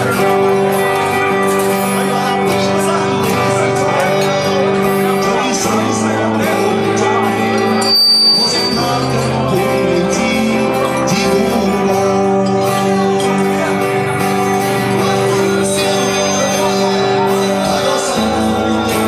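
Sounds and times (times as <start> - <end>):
guitar accompaniment: 0.0 - 19.0
men singing a pop ballad: 1.6 - 19.0.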